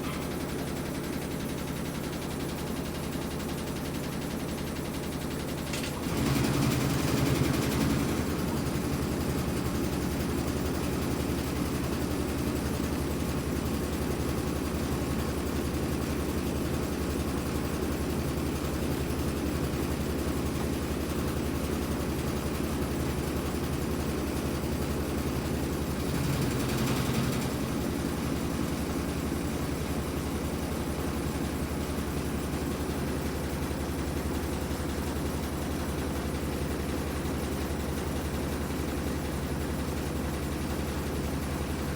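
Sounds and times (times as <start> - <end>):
washing machine motor hum: 0.0 - 41.9.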